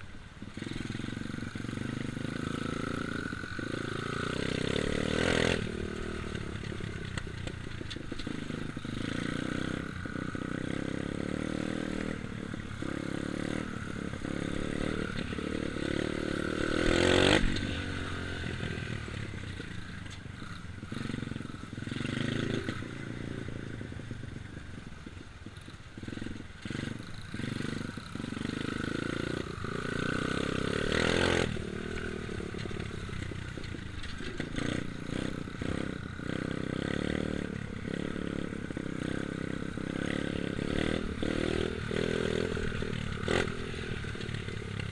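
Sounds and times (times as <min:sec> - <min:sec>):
dirt bike engine revving: 0:00.5 - 0:44.9.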